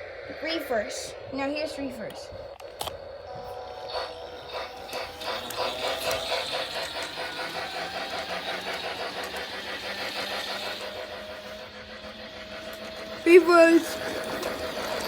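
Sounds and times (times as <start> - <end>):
toy locomotive motor whirring: 0.4 - 15.0.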